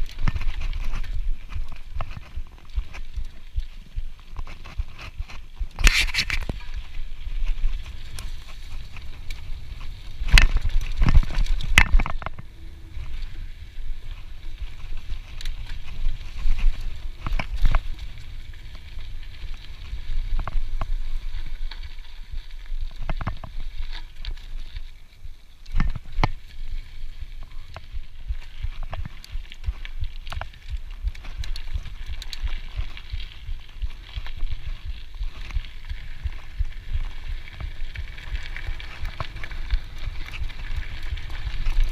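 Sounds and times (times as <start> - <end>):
bike rattling and knocking: 0.0 - 24.6, 27.4 - 41.9
bike tyres rumbling on dirt: 0.0 - 41.9.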